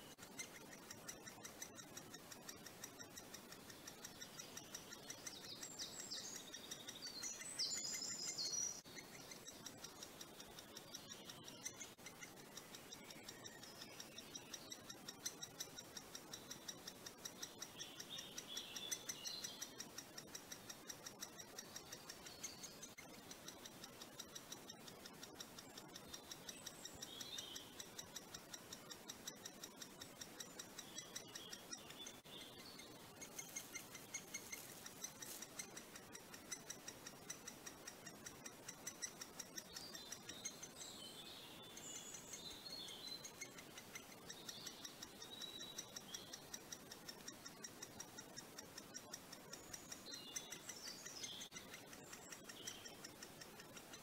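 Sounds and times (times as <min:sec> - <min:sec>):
small birds chirping: 0:00.0 - 0:54.0
woodpecker chick begging calls: 0:00.0 - 0:54.0.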